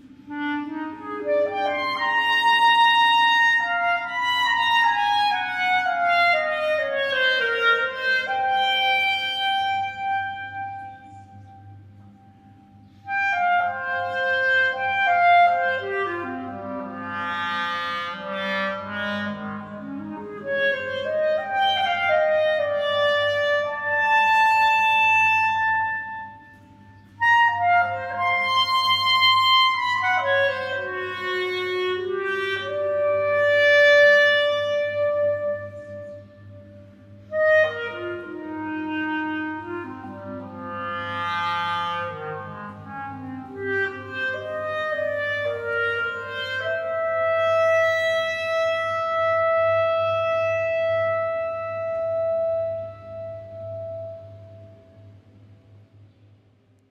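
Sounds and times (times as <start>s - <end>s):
clarinet improvising with echo: 0.0s - 55.8s
steady low hum: 0.0s - 56.9s.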